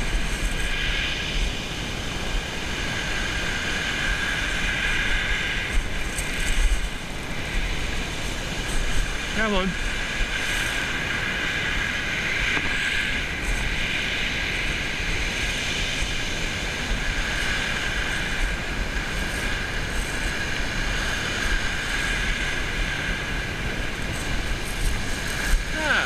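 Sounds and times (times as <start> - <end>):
constant high whine: 0.0 - 26.0
waves on a shingle beach: 0.0 - 26.0.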